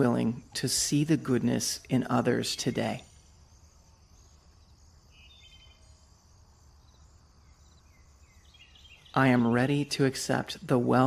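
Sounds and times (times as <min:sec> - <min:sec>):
high insect drone: 0:00.0 - 0:10.6.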